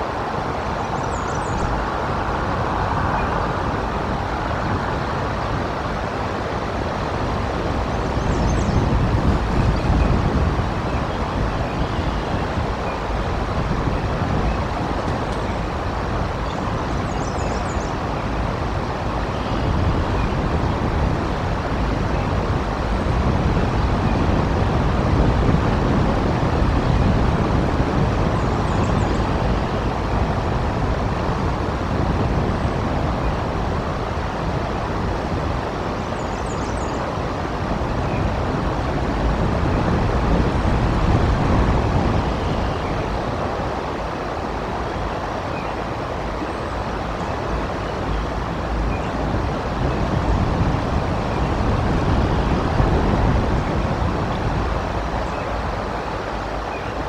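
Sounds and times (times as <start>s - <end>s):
strong wind gusting: 0.0s - 57.0s.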